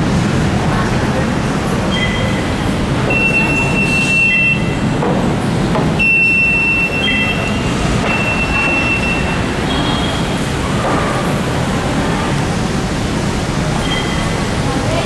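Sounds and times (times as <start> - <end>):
urban vehicle noise: 0.0 - 15.0.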